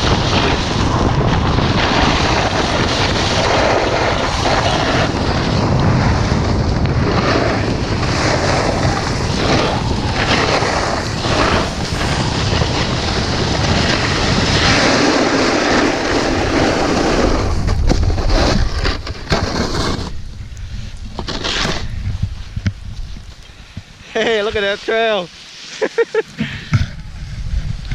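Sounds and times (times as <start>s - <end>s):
snowboard scraping across snow: 0.0s - 23.3s, 24.0s - 26.5s
wind rushing over microphone: 0.0s - 25.1s, 26.4s - 27.9s.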